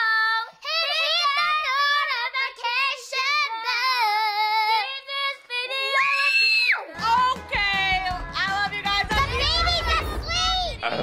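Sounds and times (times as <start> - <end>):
girls singing unaccompanied: 0.0 - 10.7.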